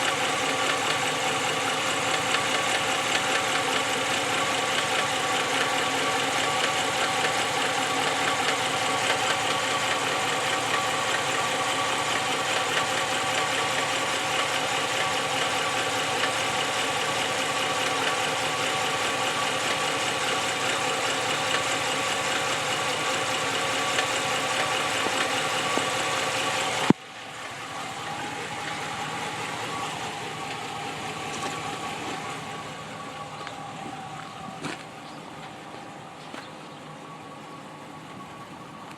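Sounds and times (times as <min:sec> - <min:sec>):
knocking engine idling: 0:00.0 - 0:38.9.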